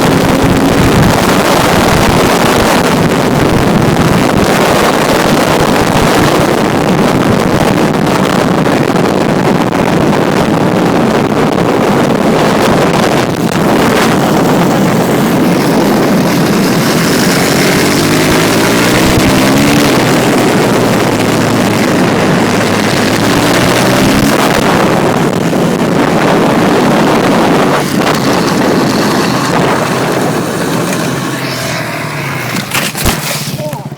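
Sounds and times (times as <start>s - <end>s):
dirt bike engine revving: 0.0s - 9.6s, 10.5s - 33.9s
wind buffeting microphone: 0.0s - 33.9s.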